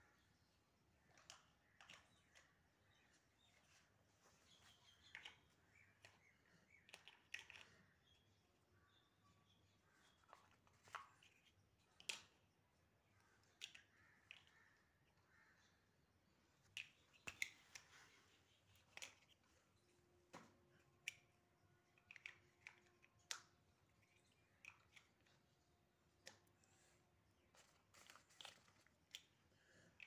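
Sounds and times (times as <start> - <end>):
plastic blocks clicking: 0.8 - 3.8, 4.6 - 9.0, 9.6 - 15.8, 16.4 - 30.0.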